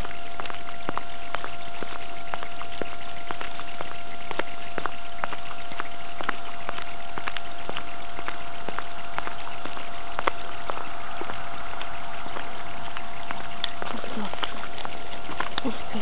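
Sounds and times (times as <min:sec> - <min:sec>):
steady hiss with tone: 0:00.0 - 0:16.0.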